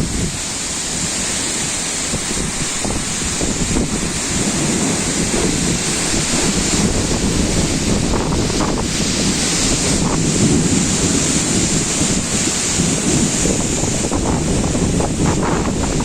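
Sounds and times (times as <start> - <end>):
heavy rain hissing: 0.0 - 16.0
wind buffeting microphone: 0.0 - 16.0.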